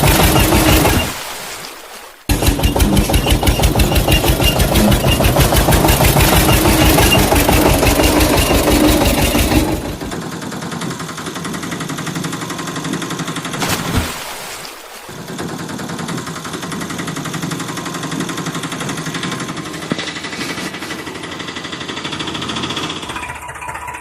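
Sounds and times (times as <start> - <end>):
heavy vehicle engine chugging: 0.0 - 1.1, 2.3 - 13.6, 15.2 - 24.0.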